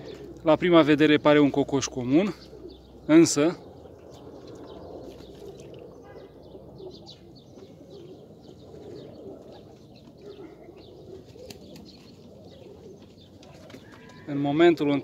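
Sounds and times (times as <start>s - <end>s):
birds cooing: 0.0s - 15.0s.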